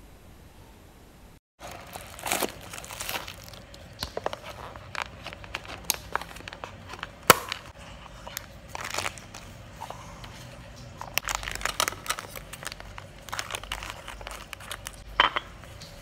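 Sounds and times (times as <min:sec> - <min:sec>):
foil packaging crinkling: 0:01.6 - 0:15.2.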